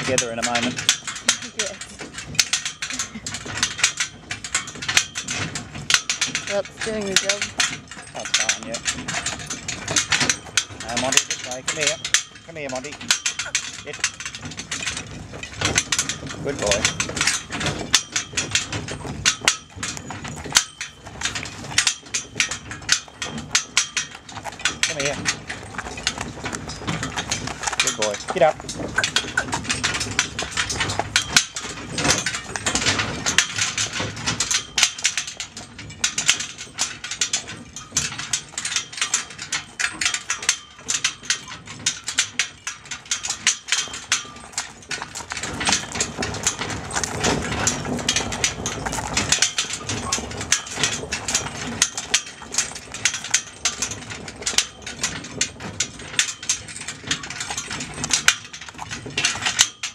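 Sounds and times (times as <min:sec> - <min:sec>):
harness chains jangling: 0:00.0 - 0:59.9.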